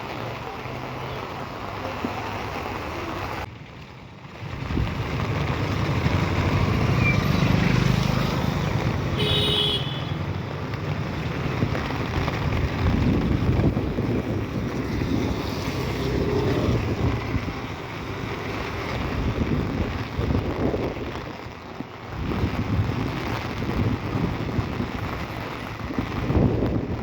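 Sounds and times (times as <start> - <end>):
steady rushing rumble: 3.4 - 9.3, 10.2 - 27.0.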